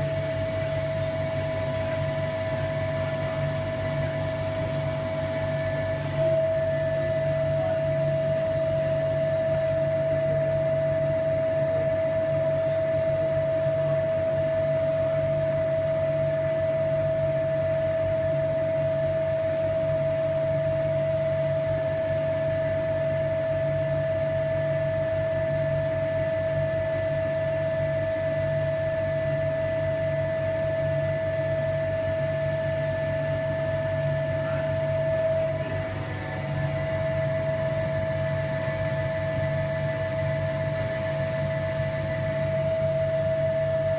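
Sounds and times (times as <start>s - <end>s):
vacuum pump running: 0.0s - 43.9s.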